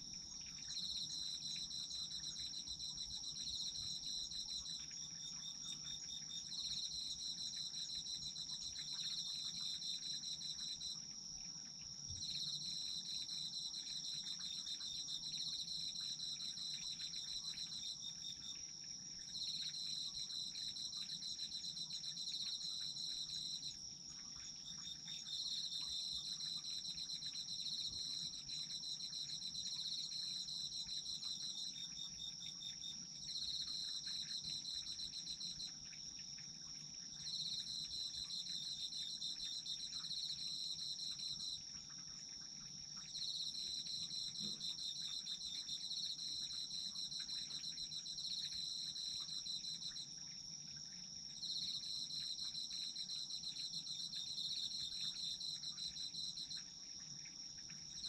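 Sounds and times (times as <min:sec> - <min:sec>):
cricket chirping in rapid phrases: 0:00.0 - 0:58.0
cricket steady high trill: 0:00.0 - 0:58.0.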